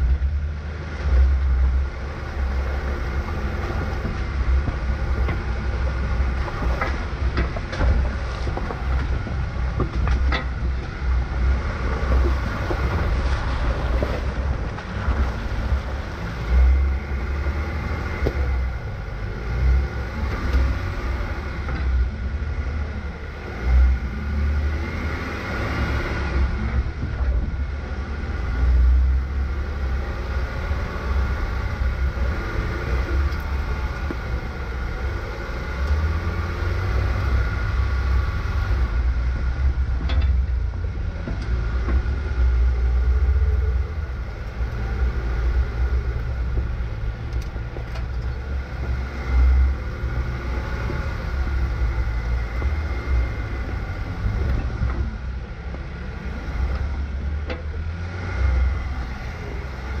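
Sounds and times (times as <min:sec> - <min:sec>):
vehicle engine rumbling and whining: 0:00.0 - 1:00.0.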